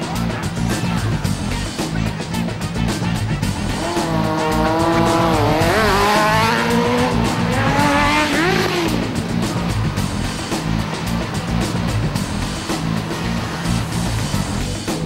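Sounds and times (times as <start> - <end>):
rock music: 0.0 - 15.0
high-revving vehicle engine: 0.1 - 15.0.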